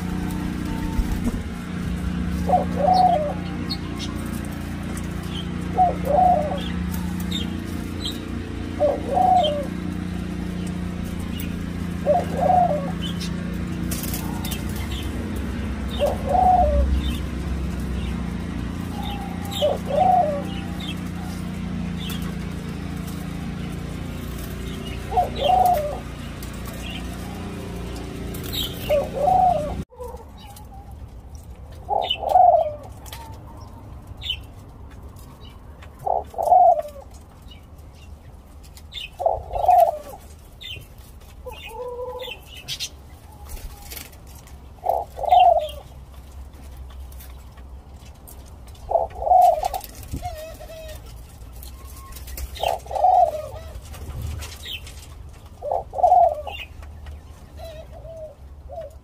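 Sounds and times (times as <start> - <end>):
dove cooing: 0.0 - 31.0, 31.6 - 37.6, 38.8 - 59.0.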